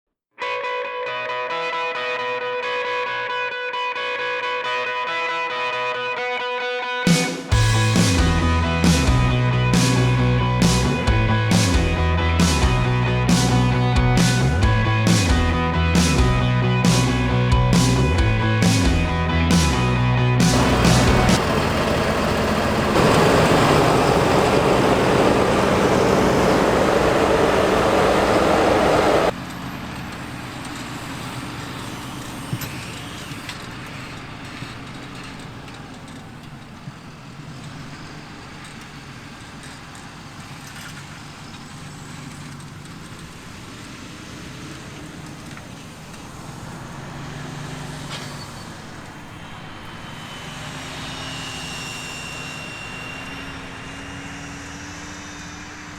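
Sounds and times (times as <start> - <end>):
tractor diesel engine under load: 7.5 - 55.9.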